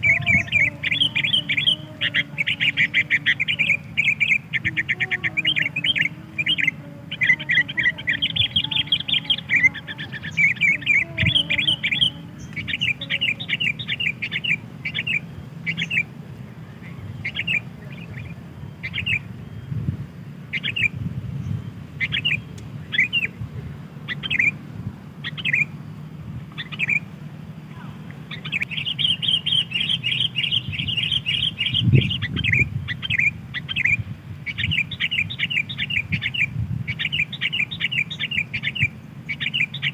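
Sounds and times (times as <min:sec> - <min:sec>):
bird chattering: 0:00.0 - 0:19.8, 0:20.4 - 0:39.9
bird chirping: 0:00.0 - 0:39.9.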